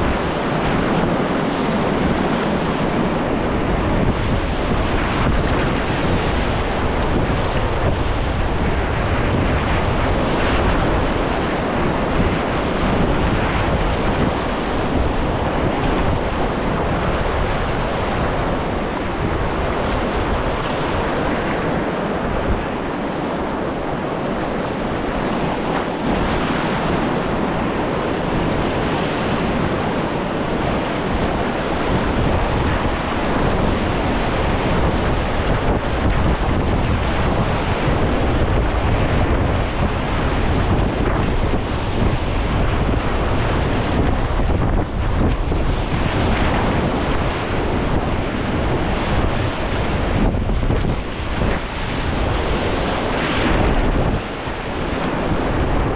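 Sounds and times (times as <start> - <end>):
wind rumbling on microphone: 0.0 - 55.9.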